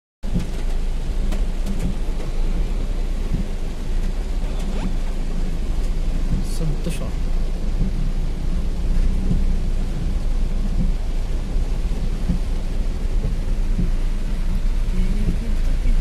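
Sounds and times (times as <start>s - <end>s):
heavy rain: 0.2s - 16.0s
floodwater rushing in a torrent: 0.3s - 16.0s.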